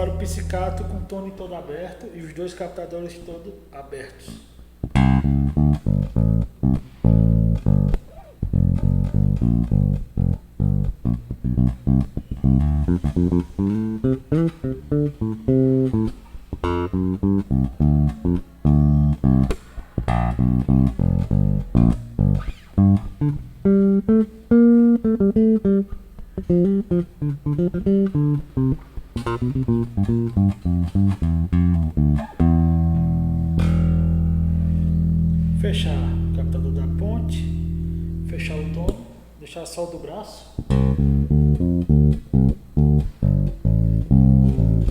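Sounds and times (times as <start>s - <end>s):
electric bass plucked notes: 0.0s - 1.1s, 4.8s - 39.0s, 40.6s - 44.9s.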